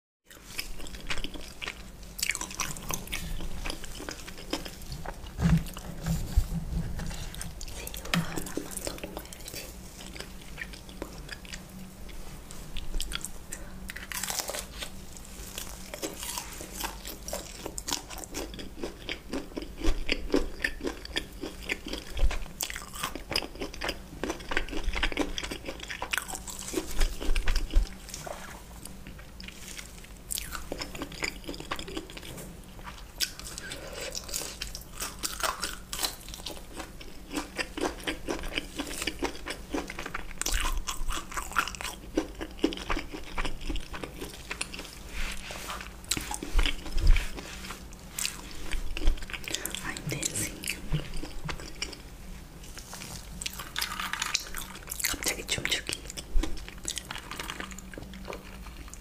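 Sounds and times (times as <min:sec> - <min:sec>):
crunching and chewing fried shrimp: 0:00.3 - 0:59.0.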